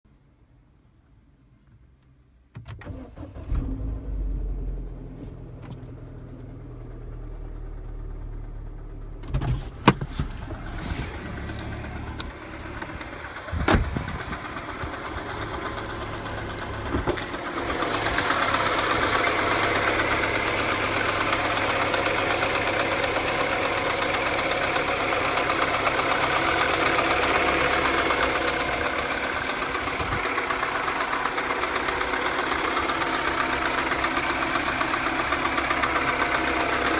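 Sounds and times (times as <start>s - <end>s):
car engine idling with ticking: 6.4s - 36.9s.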